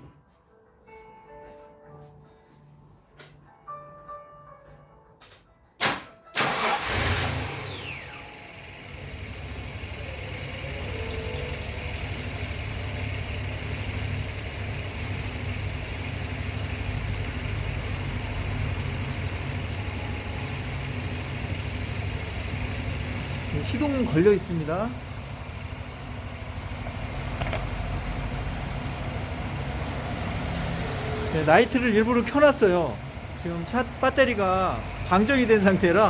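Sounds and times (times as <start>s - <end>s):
engine cranking and idling: 6.3s - 36.0s.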